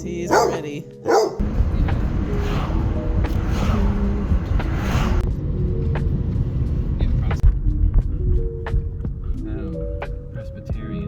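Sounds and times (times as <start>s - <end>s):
car engine and road noise: 0.0s - 9.3s.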